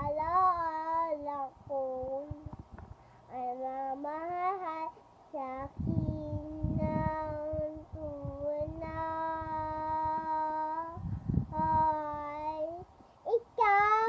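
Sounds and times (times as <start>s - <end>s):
girl singing: 0.0s - 2.6s, 3.3s - 14.0s
low rumbling noises: 0.0s - 14.0s.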